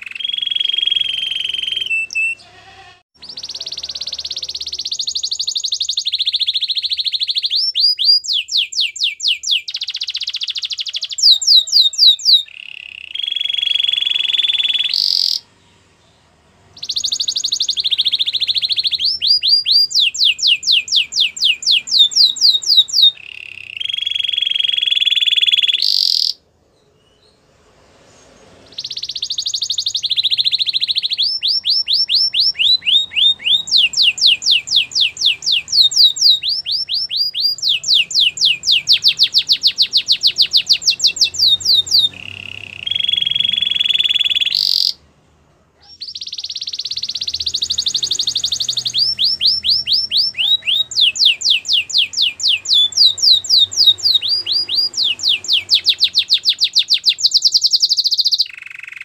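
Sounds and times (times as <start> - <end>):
canary singing trills: 0.0 - 45.1, 45.8 - 59.0.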